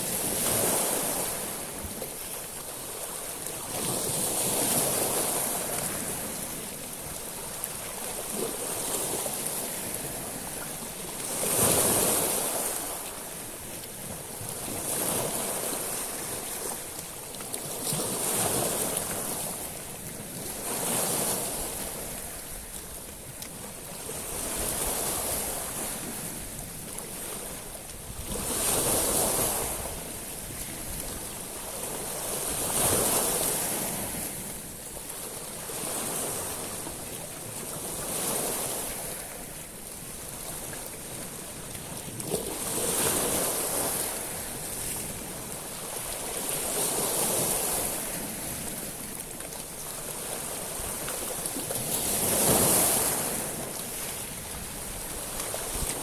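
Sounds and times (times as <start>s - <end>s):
waves breaking on pebbles: 0.0s - 22.4s, 23.9s - 56.0s.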